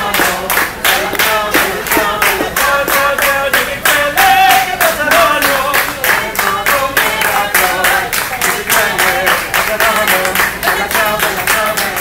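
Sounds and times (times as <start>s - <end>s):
hand-clapping steady beat: 0.0s - 12.0s
waiters singing opera: 0.0s - 12.0s.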